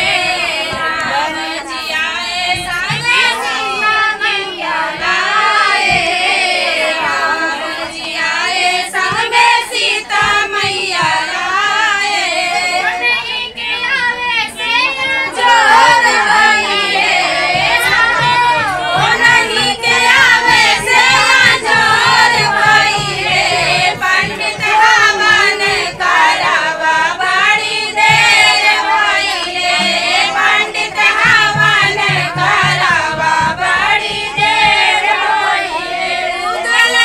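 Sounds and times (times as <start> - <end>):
women singing together: 0.0 - 37.0.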